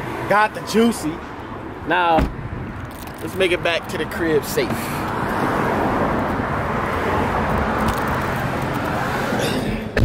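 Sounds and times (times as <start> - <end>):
traffic hiss and rumble: 0.0 - 10.0.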